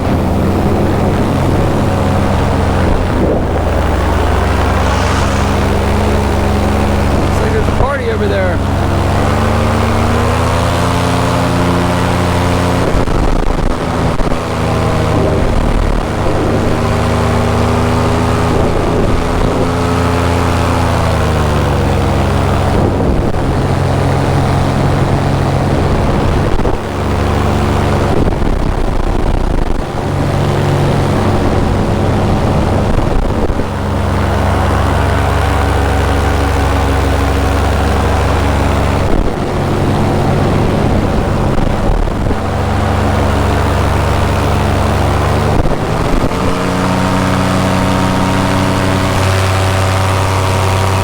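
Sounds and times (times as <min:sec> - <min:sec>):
paramotor engine and propeller: 0:00.0 - 0:51.0.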